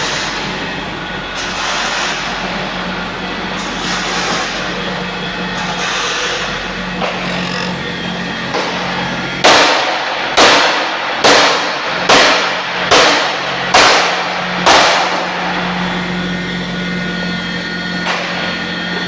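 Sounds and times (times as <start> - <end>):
welding machine humming: 0.0 - 19.0.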